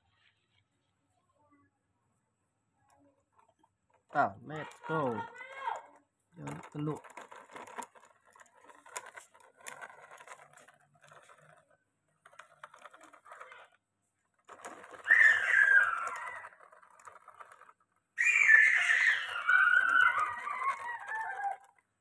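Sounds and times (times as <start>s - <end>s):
toy truck clicking and rattling: 2.9s - 22.0s.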